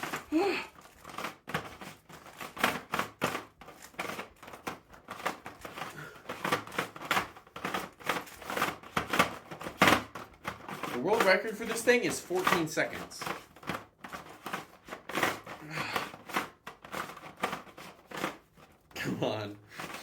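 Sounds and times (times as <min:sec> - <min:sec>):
plastic cube clicking and clacking: 0:00.0 - 0:19.0.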